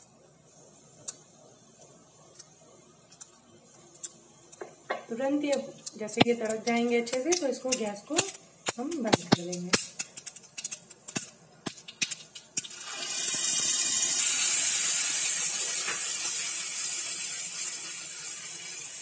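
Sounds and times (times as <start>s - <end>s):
loud sizzling hiss: 0.0s - 19.0s
seeds crackling and popping in oil: 0.7s - 19.0s.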